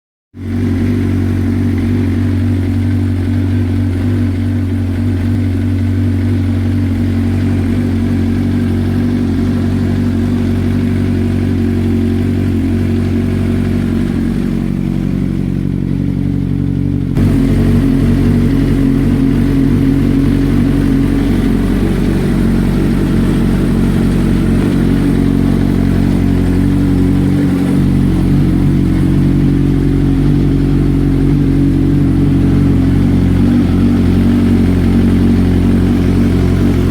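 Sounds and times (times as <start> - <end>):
motorcycle engine idling: 0.4 - 36.9.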